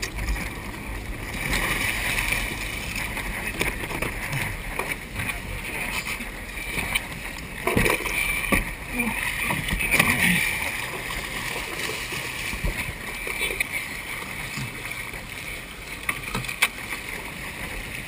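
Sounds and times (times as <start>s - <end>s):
water splashing against hull: 0.0s - 18.0s.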